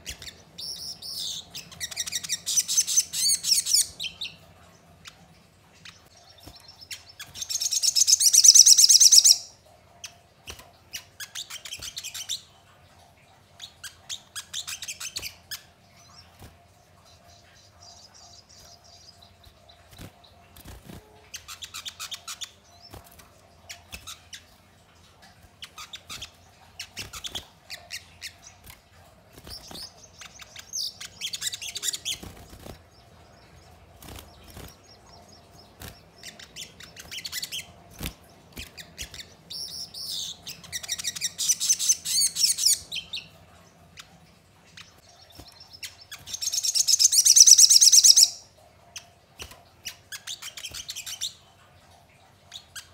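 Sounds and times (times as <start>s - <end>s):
bird chirping and trilling: 0.0s - 10.3s, 10.9s - 51.7s.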